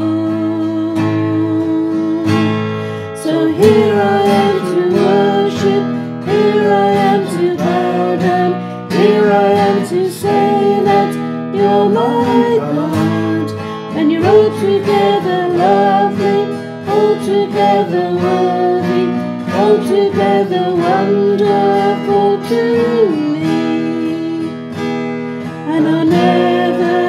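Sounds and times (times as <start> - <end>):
worship song chorus with instruments: 0.0 - 24.8, 25.4 - 27.0.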